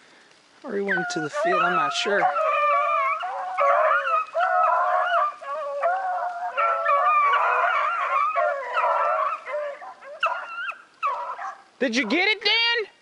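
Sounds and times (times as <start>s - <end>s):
hounds baying and howling: 0.6s - 12.4s.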